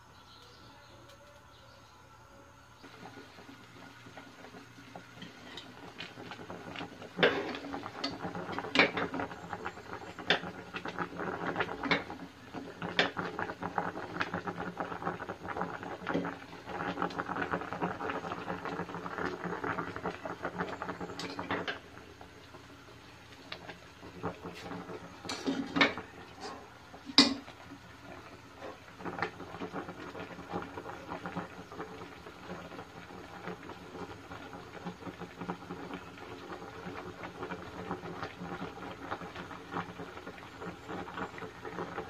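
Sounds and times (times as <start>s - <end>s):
pork frying crackling and spitting: 2.8s - 42.0s.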